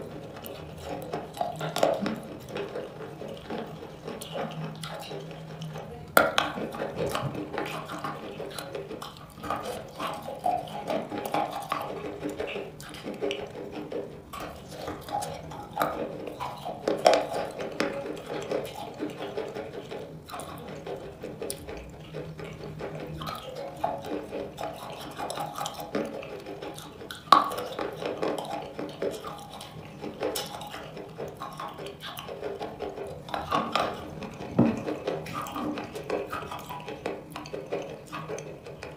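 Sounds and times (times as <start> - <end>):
lips smacking and sucking: 0.0 - 38.9
wet squelches and clicks: 0.0 - 38.9.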